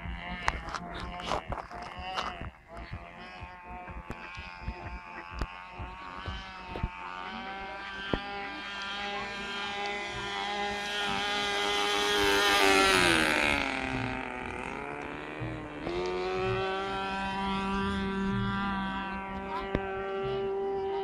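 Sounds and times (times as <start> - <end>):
model airplane motor droning: 0.0 - 21.0.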